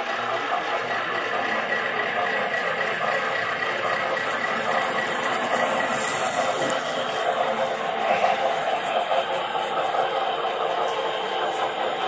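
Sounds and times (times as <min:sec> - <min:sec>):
model train motors whirring: 0:00.0 - 0:12.0.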